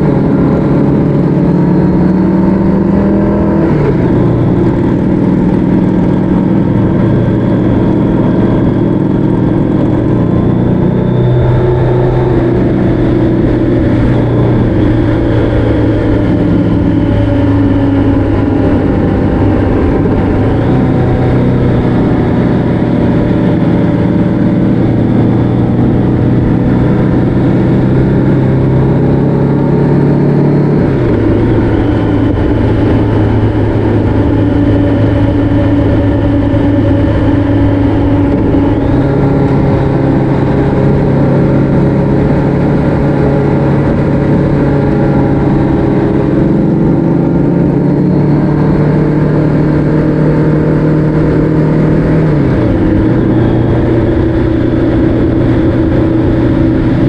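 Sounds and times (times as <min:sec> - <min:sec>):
motorcycle engine running: 0:00.0 - 0:57.0
rumbling wind noise: 0:00.0 - 0:57.0.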